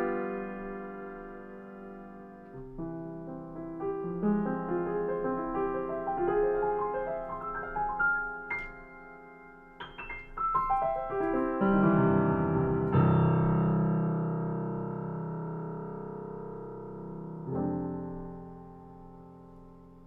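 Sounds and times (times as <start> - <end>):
piano chord ringing: 0.0 - 20.0
piano notes descending: 0.0 - 20.0.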